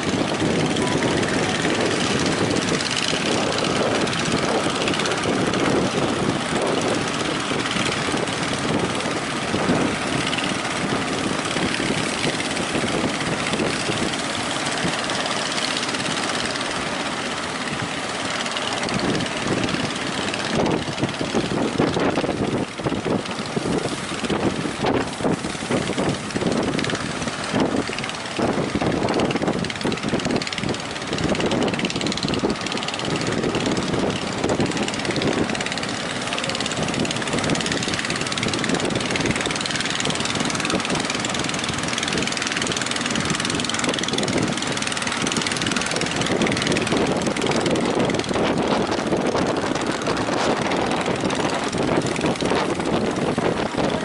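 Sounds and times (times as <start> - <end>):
sea waves breaking: 0.0 - 54.0
wind buffeting microphone: 0.0 - 54.0.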